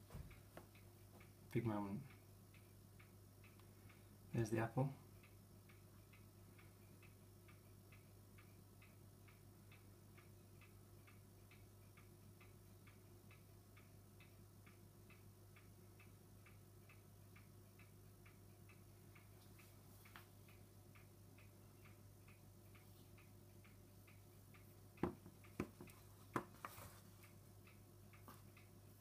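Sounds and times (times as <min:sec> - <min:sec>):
faint regular ticking: 0:00.0 - 0:29.0
low steady hum: 0:00.0 - 0:29.0.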